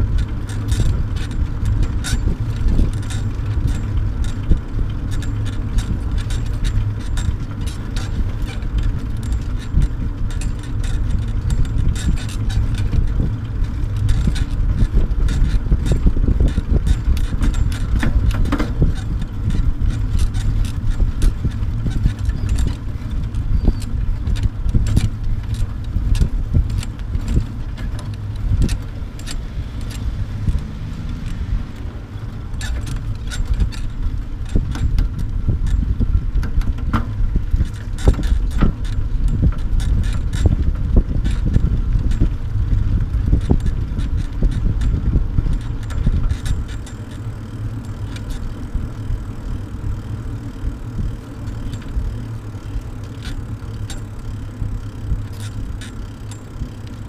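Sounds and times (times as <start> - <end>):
small clicks and knocks: 0.0 - 57.0
trailer rattling over pavement: 0.0 - 57.0
wind rumble on microphone: 0.0 - 57.0.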